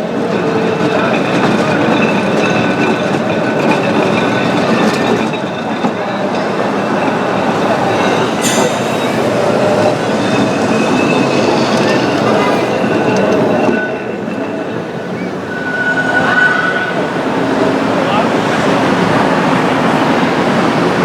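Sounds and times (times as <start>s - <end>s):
tram rolling on rails: 0.0s - 21.0s
high wheel squeal: 0.3s - 21.0s.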